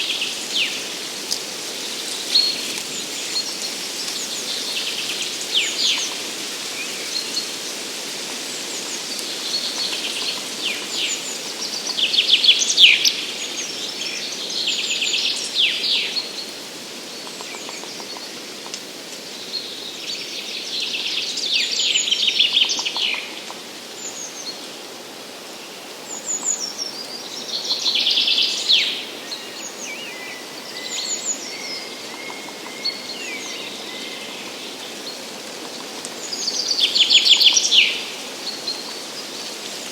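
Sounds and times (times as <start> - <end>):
songbirds singing: 0.0 - 18.4, 25.5 - 39.9.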